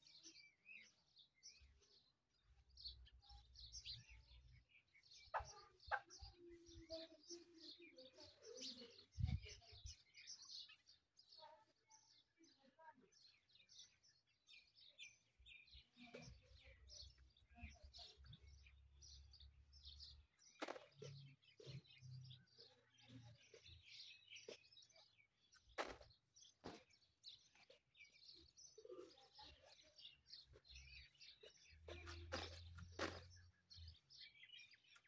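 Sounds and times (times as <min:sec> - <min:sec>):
faint high bird chirps: 0:00.0 - 0:35.0.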